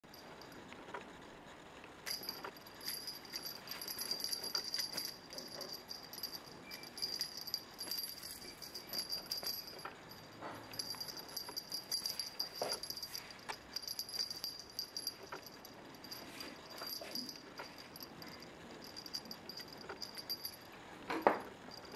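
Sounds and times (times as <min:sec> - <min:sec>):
cat toy bell jingling: 0:02.0 - 0:21.9.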